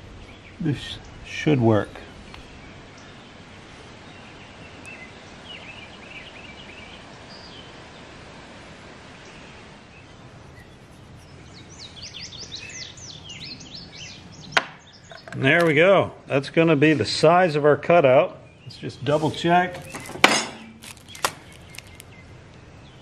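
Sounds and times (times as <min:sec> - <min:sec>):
small birds chirping: 0:00.0 - 0:08.2, 0:09.1 - 0:16.3, 0:18.1 - 0:23.0
background hiss: 0:00.0 - 0:23.0.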